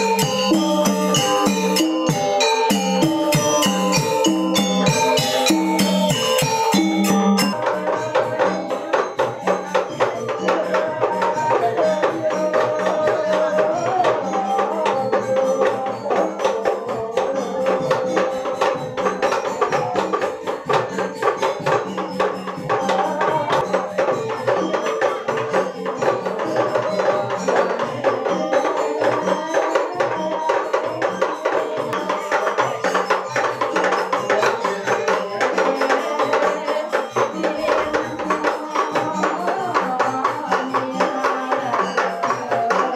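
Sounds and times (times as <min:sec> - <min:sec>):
gamelan music: 0:00.0 - 0:42.9.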